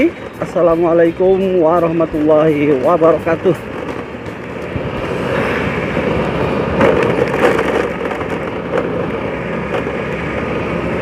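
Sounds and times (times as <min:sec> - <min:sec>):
motorcycle engine running rough: 0:00.0 - 0:11.0
road noise: 0:00.0 - 0:11.0.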